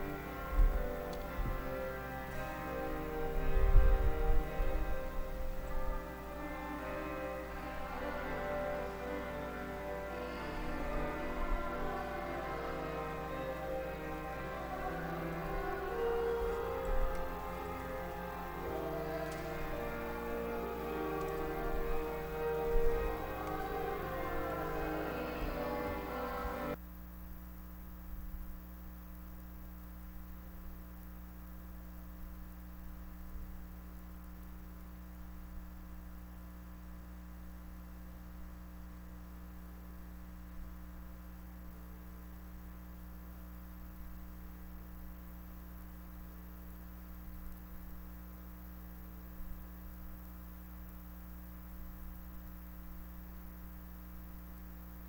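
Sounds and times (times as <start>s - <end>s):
electrical mains hum: 0.0s - 55.0s
faint hiss: 0.0s - 55.0s.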